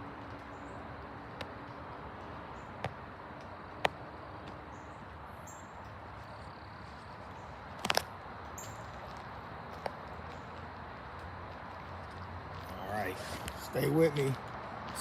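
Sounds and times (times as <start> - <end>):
steady outdoor hiss: 0.0 - 15.0
footsteps on woodland trail: 0.1 - 15.0.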